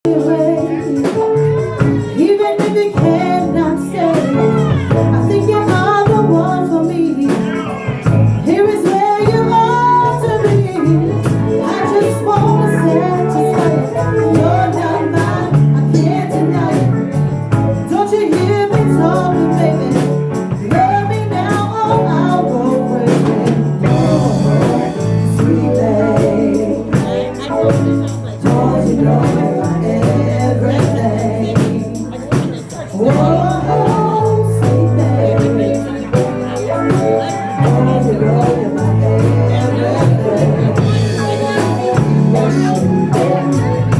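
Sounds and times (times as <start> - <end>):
band playing a song: 0.0 - 43.9
percussion beat: 0.0 - 43.9
person singing: 0.0 - 43.9.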